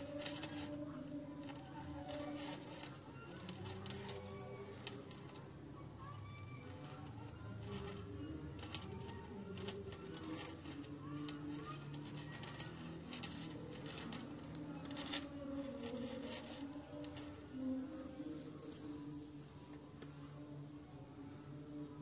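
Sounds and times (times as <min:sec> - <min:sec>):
faint background music: 0:00.0 - 0:22.0.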